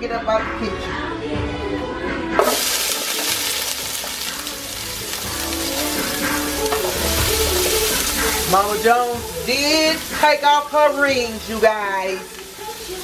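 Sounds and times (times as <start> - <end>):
onions sizzling in hot oil: 2.4 - 13.0.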